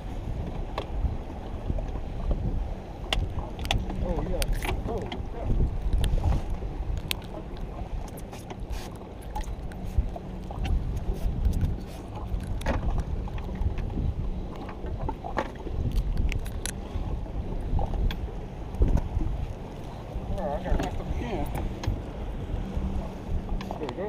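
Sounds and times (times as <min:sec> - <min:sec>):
small boat rocking on choppy water: 0:00.0 - 0:24.0
wind rumbling on microphone: 0:00.0 - 0:24.0.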